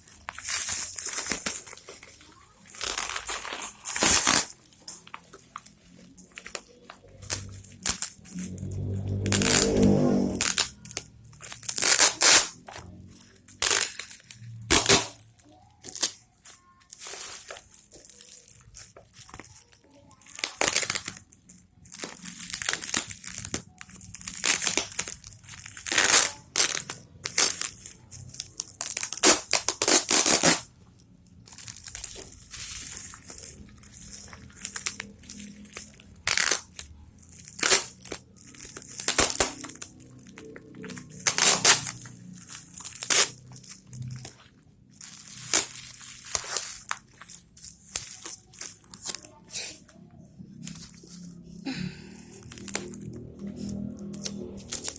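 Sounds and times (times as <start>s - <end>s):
plastic packaging crinkling: 0.0s - 54.9s.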